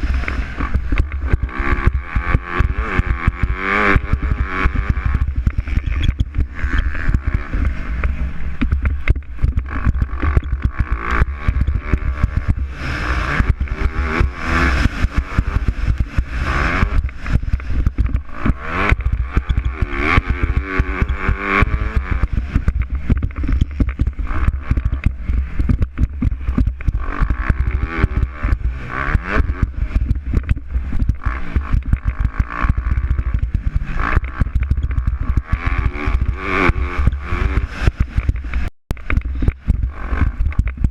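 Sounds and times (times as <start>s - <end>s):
constant crackle: 0.0s - 40.9s
low rumble: 0.0s - 40.9s
motocross bike engines revving: 0.0s - 40.9s.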